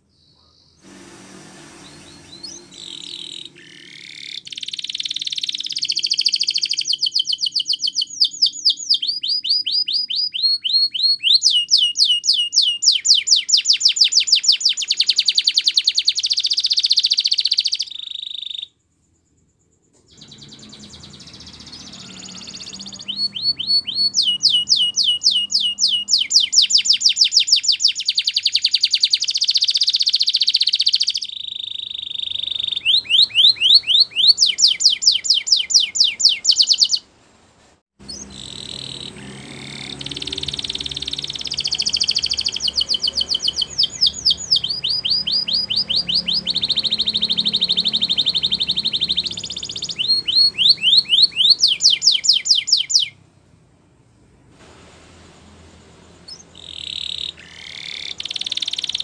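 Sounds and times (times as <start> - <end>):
canary singing trills: 0.0 - 18.8, 20.0 - 37.1, 38.0 - 53.2, 56.2 - 59.0.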